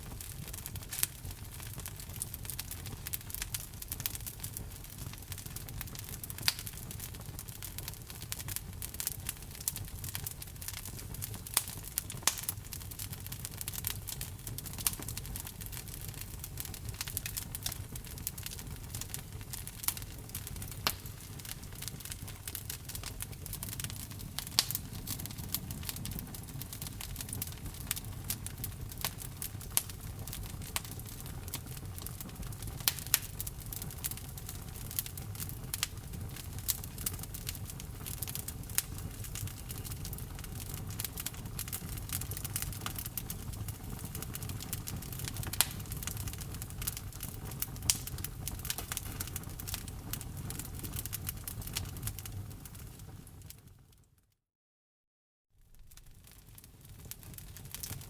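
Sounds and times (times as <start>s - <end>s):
fire rumbling: 0.0s - 53.8s, 55.6s - 58.0s
burning logs crackling and popping: 0.0s - 54.0s, 55.6s - 58.0s.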